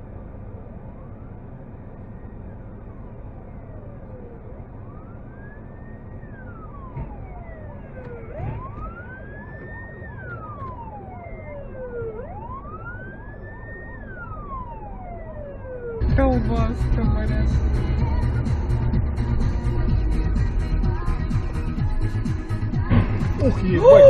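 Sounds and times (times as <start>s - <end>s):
emergency vehicle siren wailing: 0.0s - 24.0s
road and engine rumble: 0.0s - 24.0s.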